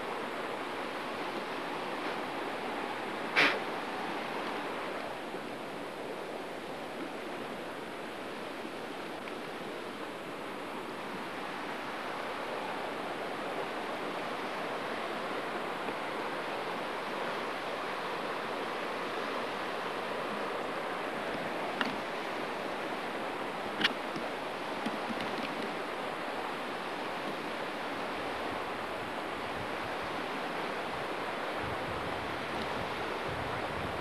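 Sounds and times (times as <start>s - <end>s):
river water rushing over rapids: 0.0s - 34.0s.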